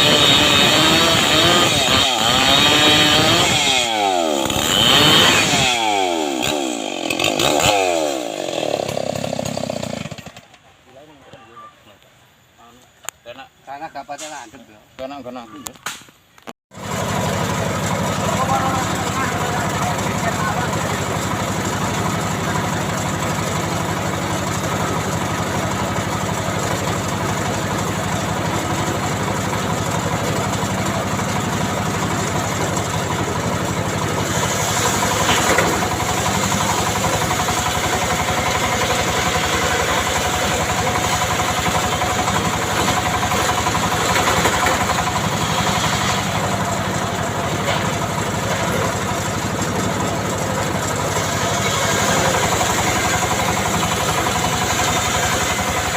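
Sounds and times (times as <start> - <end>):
engine running steadily: 0.0 - 8.8, 16.8 - 55.9.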